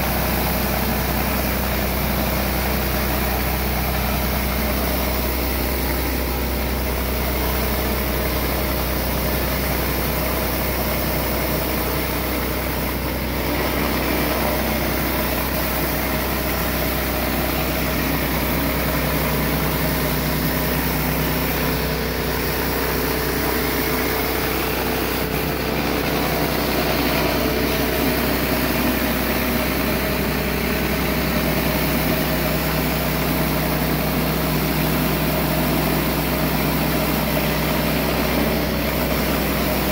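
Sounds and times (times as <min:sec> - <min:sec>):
pressure washer motor hum: 0:00.0 - 0:39.9.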